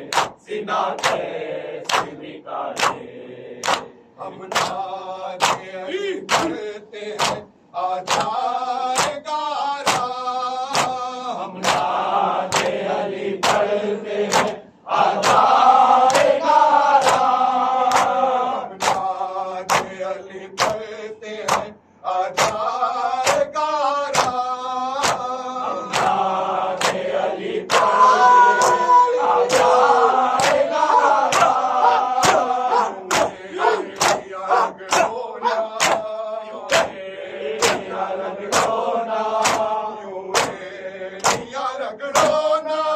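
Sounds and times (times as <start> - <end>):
men chanting a lament: 0.0 - 42.9
rhythmic chest-beating slaps: 0.0 - 42.9.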